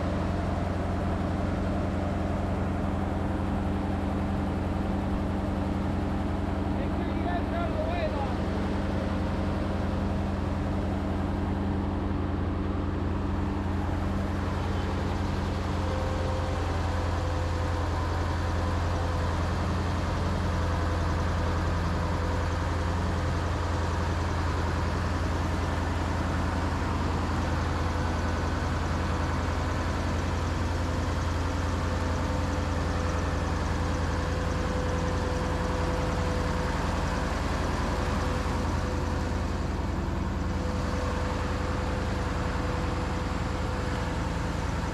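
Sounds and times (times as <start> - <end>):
diesel machinery droning: 0.0 - 44.9.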